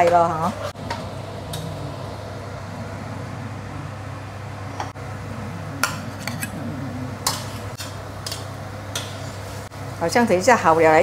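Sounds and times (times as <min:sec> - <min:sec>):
steady low hum: 0:00.3 - 0:10.9.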